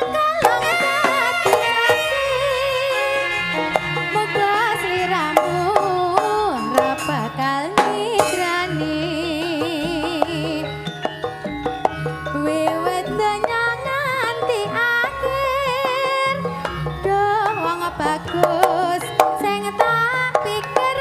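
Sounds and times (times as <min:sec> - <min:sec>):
drums and percussion: 0:00.0 - 0:21.0
wavering melody bending in pitch: 0:00.0 - 0:21.0.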